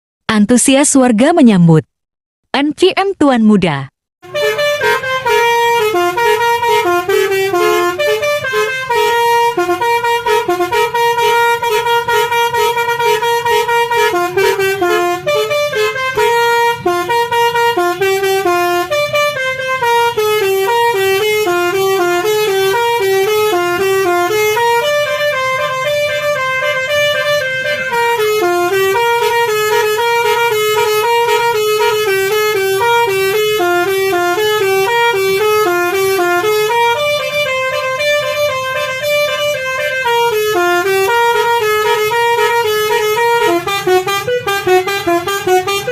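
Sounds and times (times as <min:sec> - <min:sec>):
bus musical horn tune: 0:04.2 - 0:45.9.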